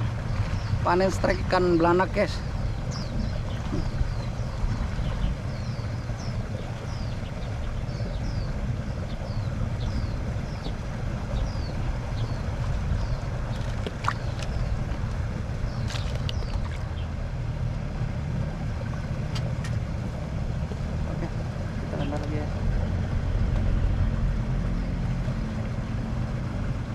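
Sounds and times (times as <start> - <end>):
low rumble: 0.0 - 26.9.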